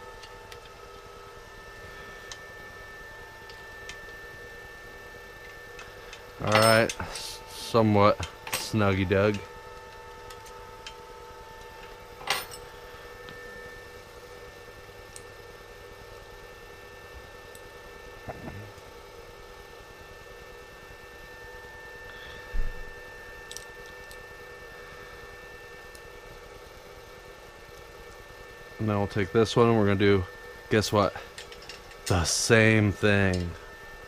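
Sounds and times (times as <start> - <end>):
steady faint hum: 0.0 - 34.0.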